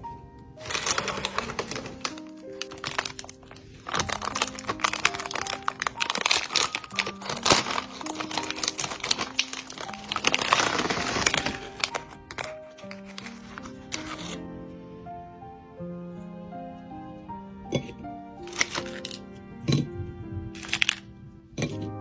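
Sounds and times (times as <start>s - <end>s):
soft background music: 0.0s - 22.0s
crisp crackling and clicking: 0.6s - 14.4s, 17.8s - 22.0s.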